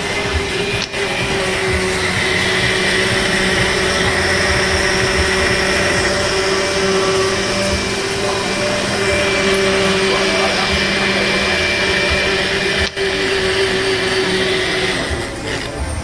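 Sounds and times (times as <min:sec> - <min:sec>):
blender motor whirring: 0:00.0 - 0:16.0.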